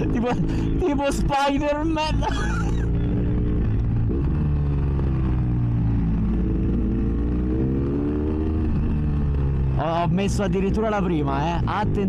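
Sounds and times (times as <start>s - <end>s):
motorcycle engine while riding: 0.0s - 12.0s.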